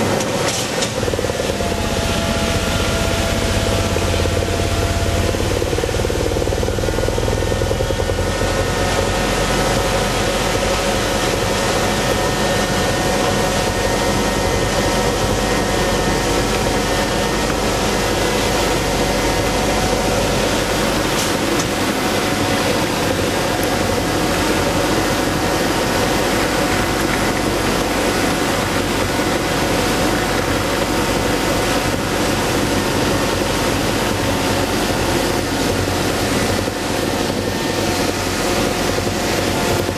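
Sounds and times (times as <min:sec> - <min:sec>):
ice edger grinding: 0:00.0 - 0:39.9.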